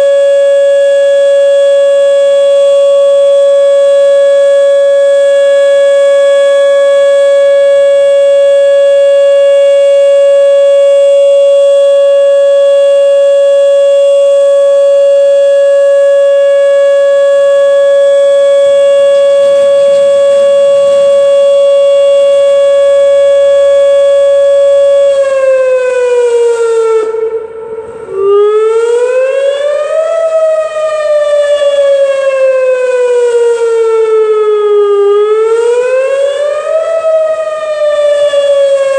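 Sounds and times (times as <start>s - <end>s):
tornado siren wailing: 0.0s - 38.9s.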